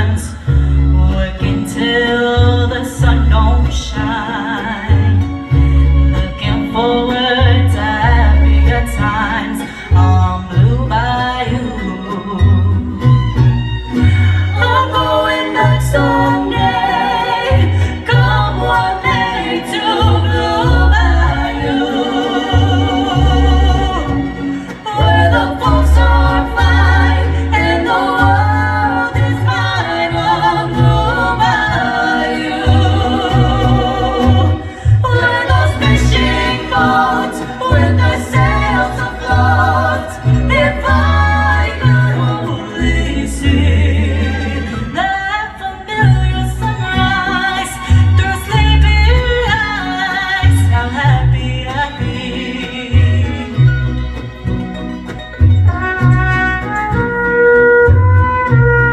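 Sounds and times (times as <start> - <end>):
deep bass line: 0.0 - 45.0, 47.8 - 49.8, 50.4 - 52.3
mariachi band playing with singing: 0.0 - 58.9.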